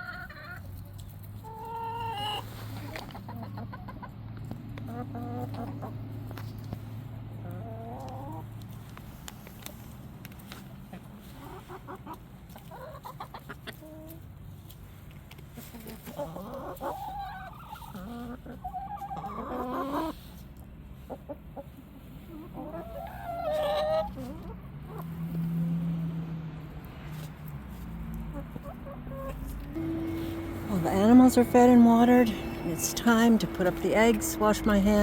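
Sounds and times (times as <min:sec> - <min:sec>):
chickens clucking: 0:00.0 - 0:25.6, 0:26.7 - 0:35.0.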